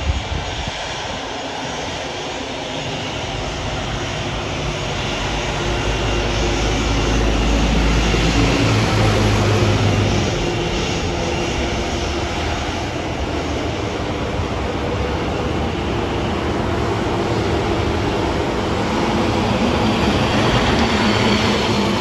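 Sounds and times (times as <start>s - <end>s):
aircraft engines rumbling: 0.0s - 22.0s.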